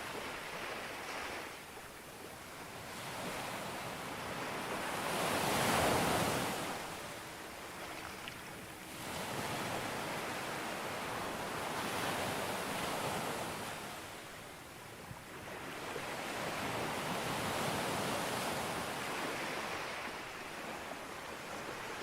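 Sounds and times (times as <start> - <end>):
sea waves breaking on beach: 2.7 - 14.3, 15.3 - 22.0.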